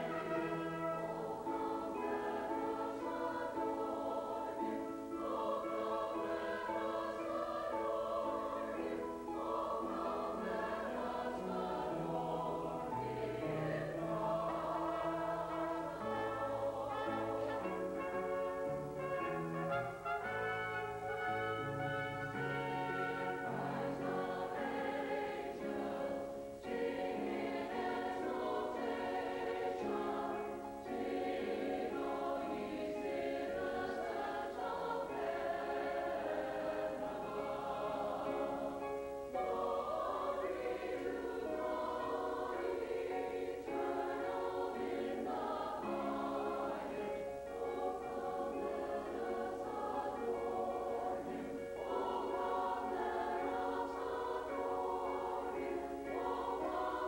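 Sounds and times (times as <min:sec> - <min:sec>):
choir singing sustained chords: 0:00.0 - 0:57.0.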